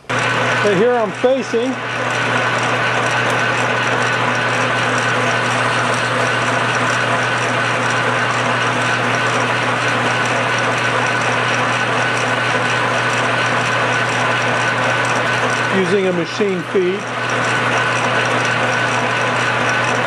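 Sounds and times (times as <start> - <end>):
high whine of drive: 0.0 - 20.0
metal lathe humming: 0.0 - 20.0.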